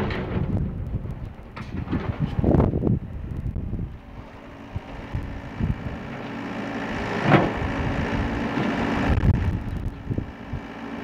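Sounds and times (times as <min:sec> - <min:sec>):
excavator diesel engine under load: 0:00.0 - 0:11.0.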